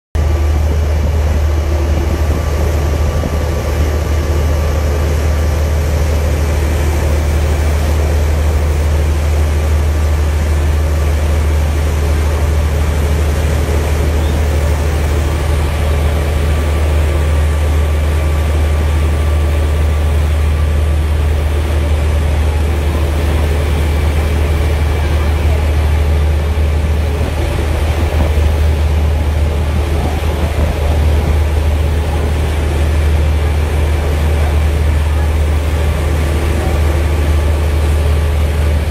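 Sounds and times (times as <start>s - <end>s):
loud low engine drone: 0.2s - 38.9s.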